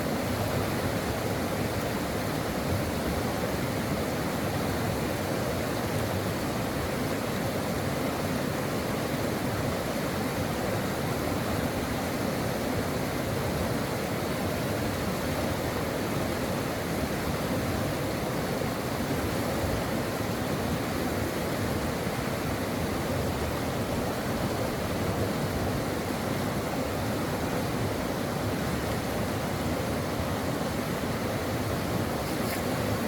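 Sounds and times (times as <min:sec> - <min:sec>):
water rushing over rocks: 0:00.1 - 0:33.0.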